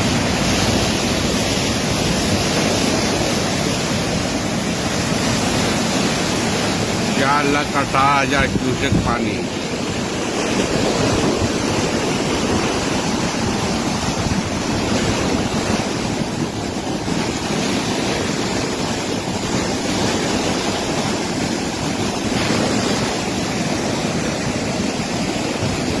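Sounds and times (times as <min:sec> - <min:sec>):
flooded river rushing: 0:00.0 - 0:26.0.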